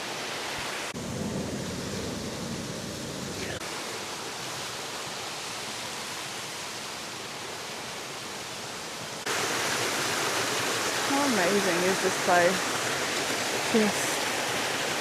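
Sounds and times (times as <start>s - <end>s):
water rushing over waterfall: 2.5s - 15.0s.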